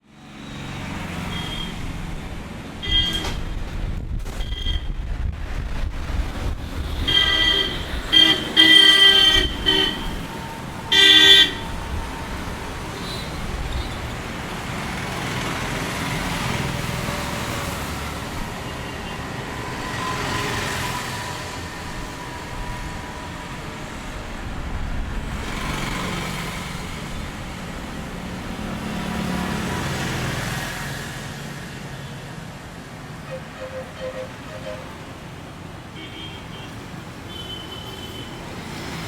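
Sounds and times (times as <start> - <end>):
vehicles driving past: 0.0 - 39.0.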